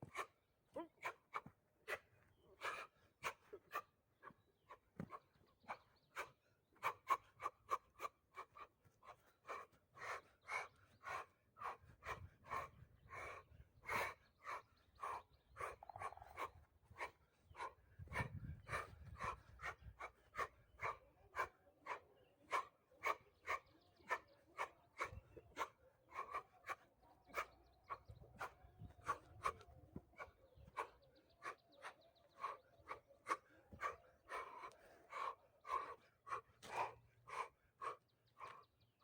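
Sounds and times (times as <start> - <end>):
fast panting: 0.0 - 39.0.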